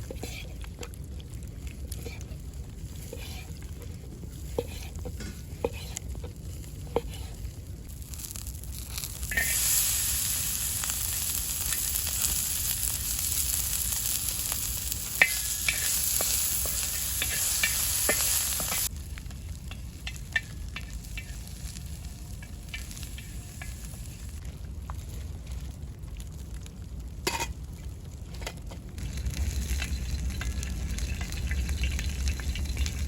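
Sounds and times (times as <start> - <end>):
food sizzling in hot oil: 0.0 - 24.4, 29.0 - 33.0.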